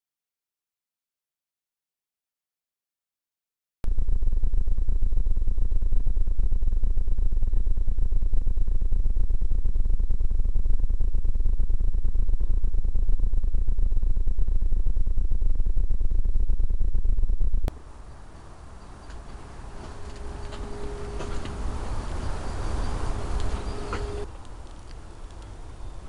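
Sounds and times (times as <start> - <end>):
low buffeting on microphone: 4.0 - 26.0.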